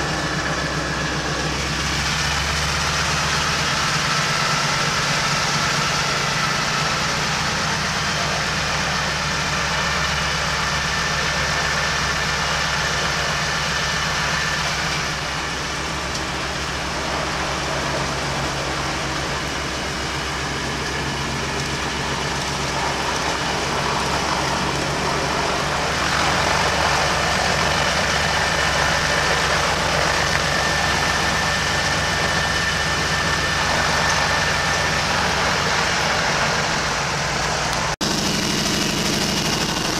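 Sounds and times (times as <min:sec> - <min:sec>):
radial aircraft engine droning: 0:00.0 - 0:39.9.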